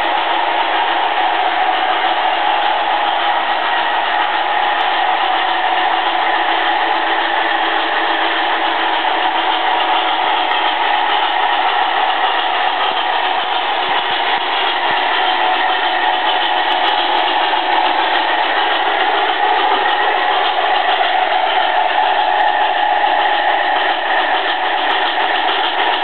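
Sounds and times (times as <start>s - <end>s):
model train whirring: 0.0s - 26.0s.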